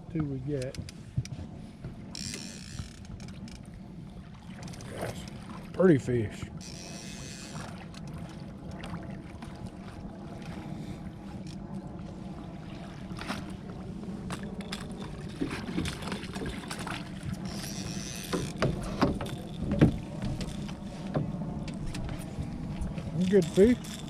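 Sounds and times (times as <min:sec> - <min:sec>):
boat engine hum: 0:00.0 - 0:24.0.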